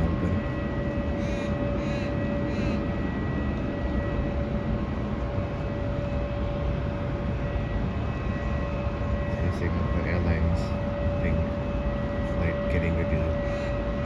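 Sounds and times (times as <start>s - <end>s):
faint engine whine: 0.0s - 14.0s
jet engines rumbling: 0.0s - 14.0s.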